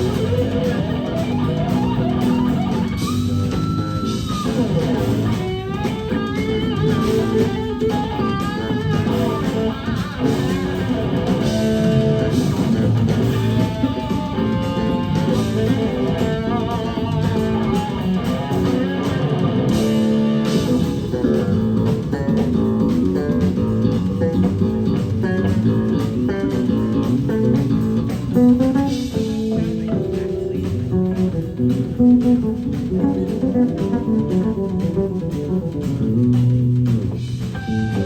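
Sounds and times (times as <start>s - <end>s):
bass guitar: 0.0s - 38.0s
drum kit beat: 0.0s - 38.0s
electric guitar lines: 0.0s - 38.0s.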